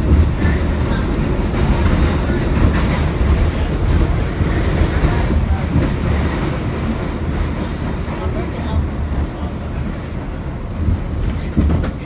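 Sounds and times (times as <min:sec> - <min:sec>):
rail clatter: 0:00.0 - 0:12.0
subway car wheels rumbling: 0:00.0 - 0:12.0.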